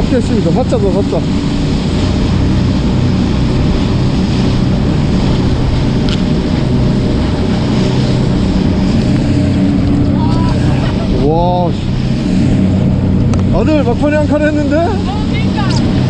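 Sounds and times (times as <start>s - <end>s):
boat engine running: 0.0s - 16.0s
rush of wake: 0.0s - 16.0s
wind on microphone: 0.0s - 16.0s.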